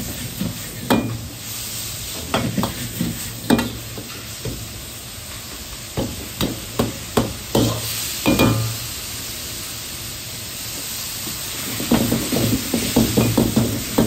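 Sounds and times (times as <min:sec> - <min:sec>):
meat sizzling in a wok: 0:00.0 - 0:14.0.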